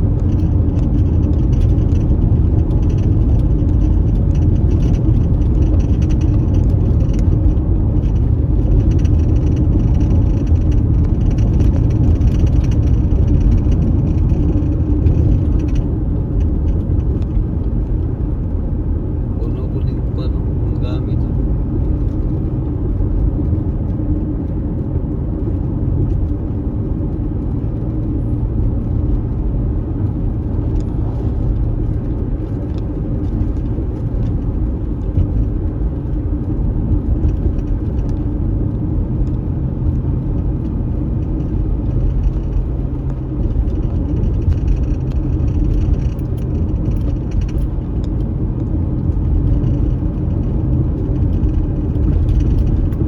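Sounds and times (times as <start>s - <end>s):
car rumbling on unpaved road: 0.0s - 53.0s.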